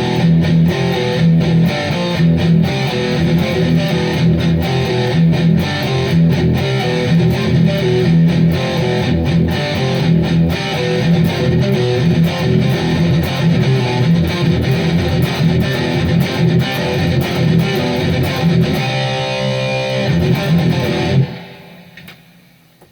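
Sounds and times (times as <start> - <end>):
electric guitar heavy metal riffs: 0.0 - 22.0.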